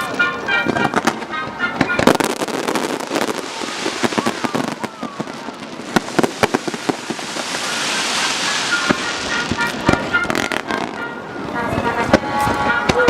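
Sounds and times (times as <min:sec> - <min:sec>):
firework hissing crackle: 0:00.8 - 0:11.6.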